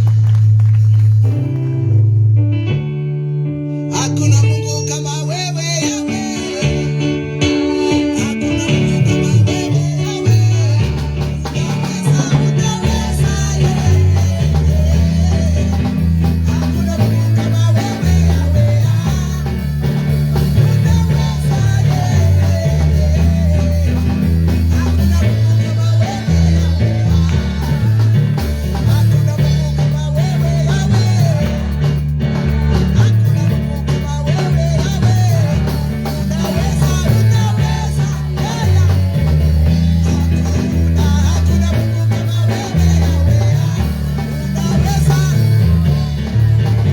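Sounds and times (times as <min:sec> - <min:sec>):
drums: 0:00.0 - 0:02.6, 0:04.0 - 0:46.9
bass line: 0:00.0 - 0:46.9
guitar: 0:00.0 - 0:46.9
person singing: 0:03.8 - 0:46.9.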